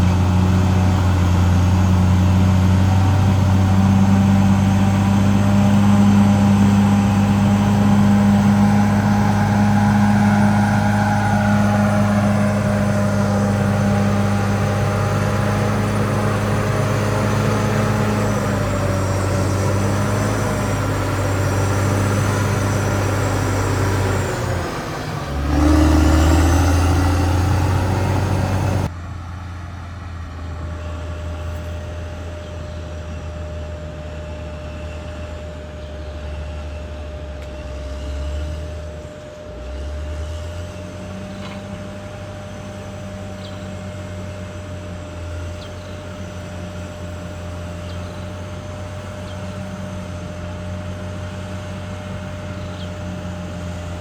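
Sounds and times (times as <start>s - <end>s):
bulldozer diesel engine humming: 0.0s - 54.0s.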